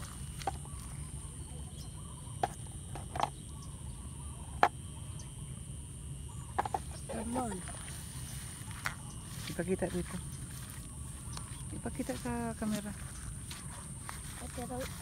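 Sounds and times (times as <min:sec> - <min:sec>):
high insect drone: 0:00.0 - 0:15.0
low rumble of outdoor air: 0:00.0 - 0:15.0.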